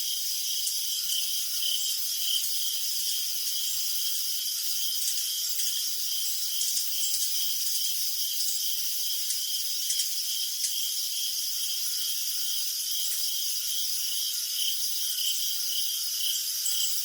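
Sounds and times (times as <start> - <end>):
crickets chorus: 0.0 - 17.0
nearby cricket chirping: 0.0 - 17.0.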